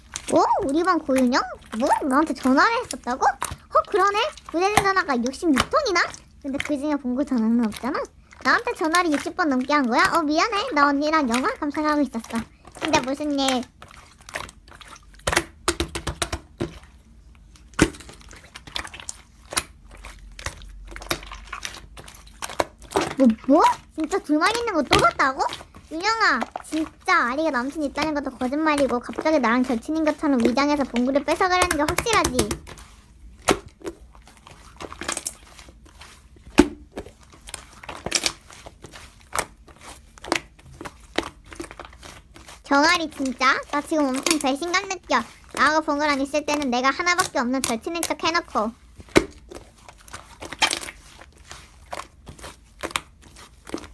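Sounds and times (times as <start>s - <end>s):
slime squeezed with sticky pops: 0.0s - 53.9s.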